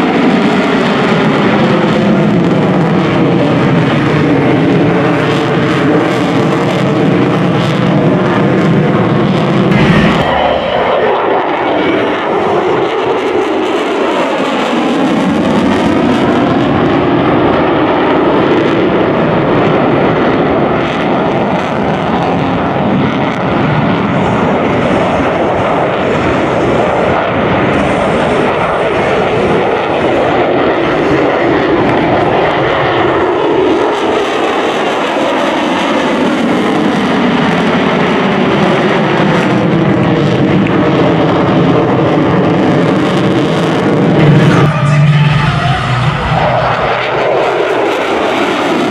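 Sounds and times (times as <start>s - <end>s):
loud jet noise: 0.0s - 48.9s.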